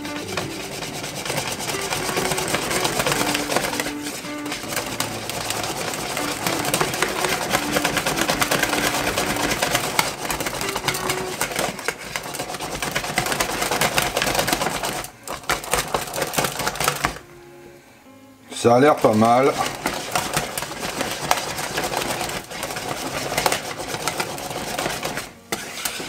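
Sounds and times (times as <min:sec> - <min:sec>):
whisk beating batter in bowl: 0:00.0 - 0:17.2, 0:18.7 - 0:26.0.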